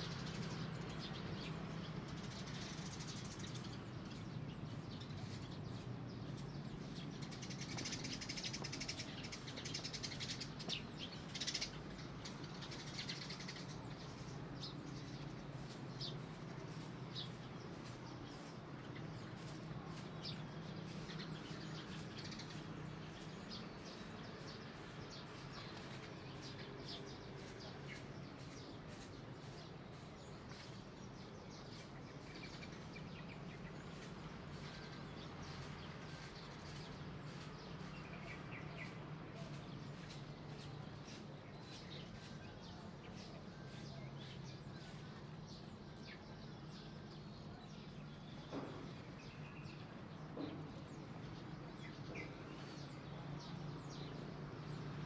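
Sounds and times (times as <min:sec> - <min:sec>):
bird chirps: 0:00.0 - 0:55.0.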